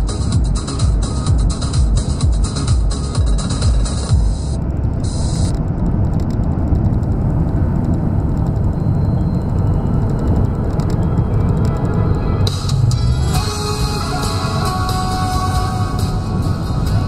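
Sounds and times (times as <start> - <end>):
electronic music: 0.0 - 6.0, 7.3 - 17.0
car cabin rumble: 0.0 - 17.0.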